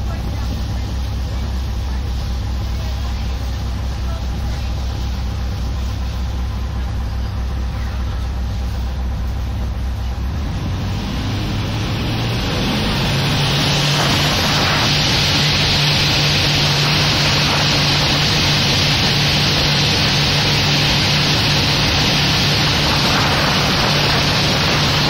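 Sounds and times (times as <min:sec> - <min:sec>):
boat engines humming: 0:00.0 - 0:25.0
rushing water noise: 0:00.0 - 0:25.0.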